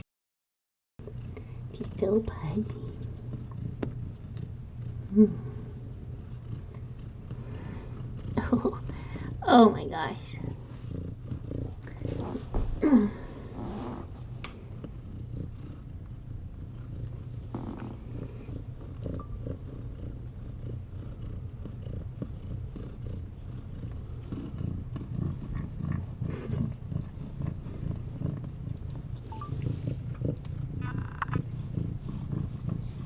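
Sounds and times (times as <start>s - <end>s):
cat purring: 1.0s - 33.0s.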